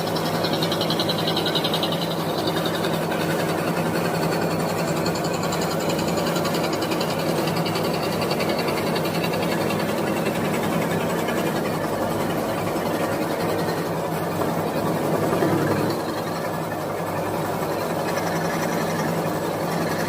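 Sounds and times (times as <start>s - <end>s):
electric scroll saw cutting wood: 0.4s - 16.7s.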